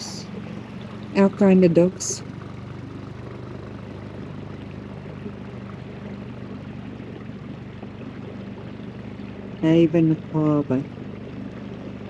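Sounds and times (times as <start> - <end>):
boat diesel engines droning: 0.0 - 12.0.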